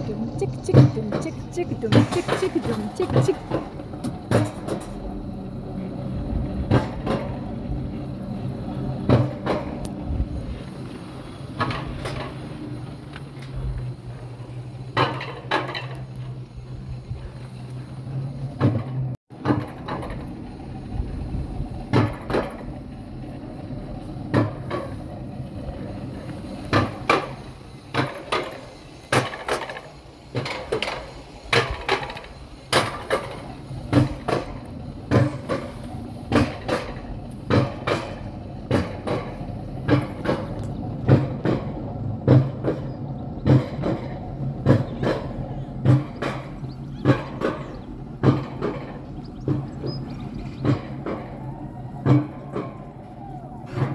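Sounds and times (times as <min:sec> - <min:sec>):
coaster cart clacking on rail track: 0:00.0 - 0:53.9.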